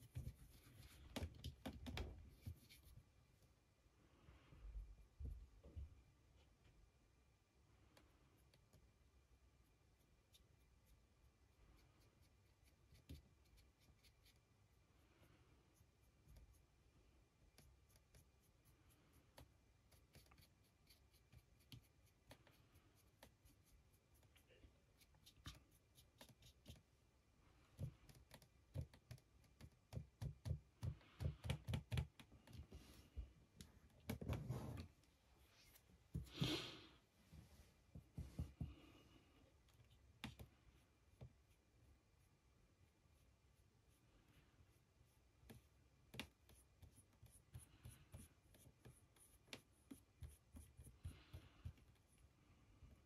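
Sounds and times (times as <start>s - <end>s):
faint brush strokes: 0.0s - 6.8s, 7.8s - 29.4s, 32.3s - 53.0s.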